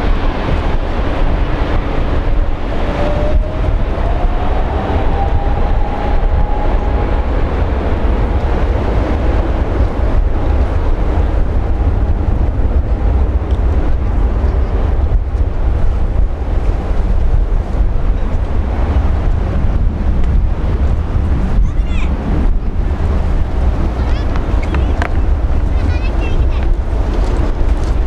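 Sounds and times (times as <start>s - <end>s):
faint engine whine: 0.0s - 27.6s
jet engine rumble: 0.0s - 28.0s
wind buffeting microphone: 0.0s - 28.0s.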